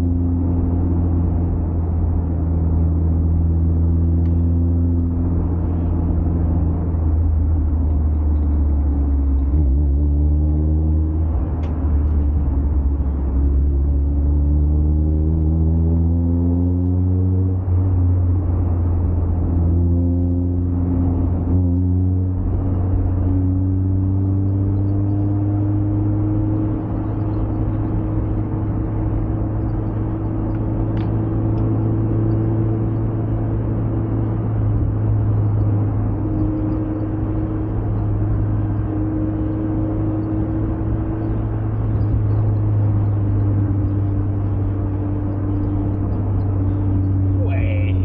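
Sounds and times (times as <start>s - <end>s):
car engine cruising: 0.0s - 48.0s
tyre and road noise: 0.0s - 48.0s.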